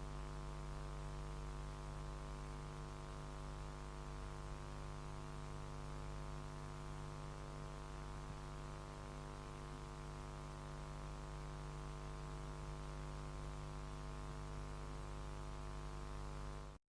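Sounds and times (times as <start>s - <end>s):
electrical buzzing hum: 0.0s - 16.8s.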